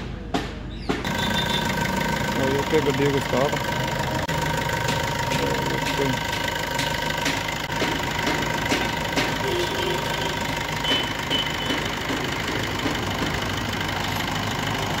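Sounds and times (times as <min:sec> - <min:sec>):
diesel engine idling: 0:01.0 - 0:15.0.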